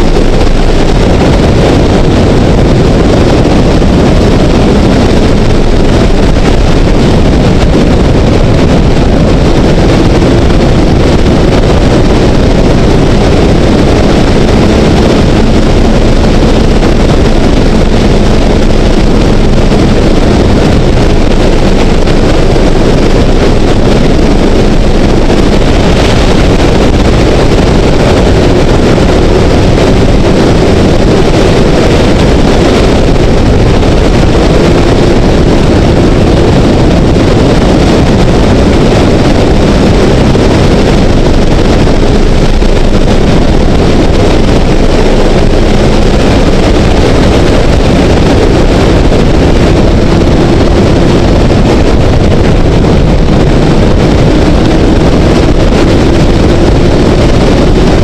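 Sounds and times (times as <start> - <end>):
faint motorcycle engine drone: 0.0 - 58.0
heavy wind rush on helmet: 0.0 - 58.0.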